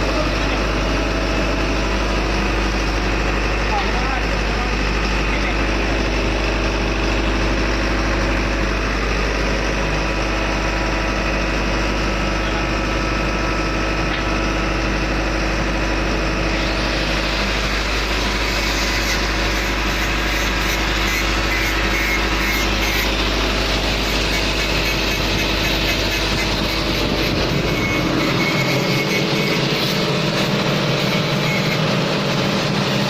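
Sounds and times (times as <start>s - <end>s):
engine-room machinery droning: 0.0s - 33.0s.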